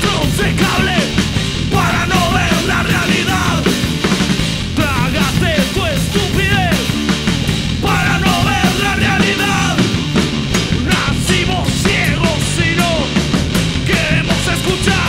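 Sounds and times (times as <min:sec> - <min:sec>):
drums: 0:00.0 - 0:15.0
punk rock band playing live: 0:00.0 - 0:15.0.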